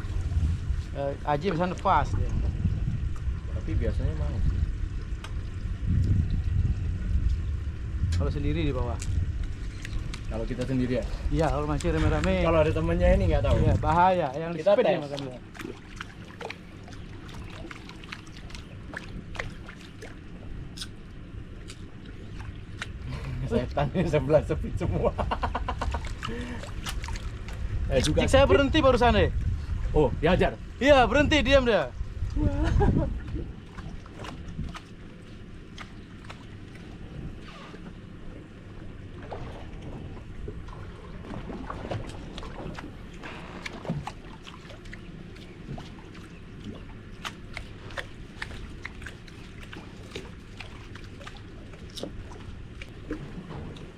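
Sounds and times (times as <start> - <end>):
low rumble: 0.0 - 14.6, 15.5 - 53.9
water lapping against boat hull: 0.0 - 53.9
water splashes: 0.0 - 53.9.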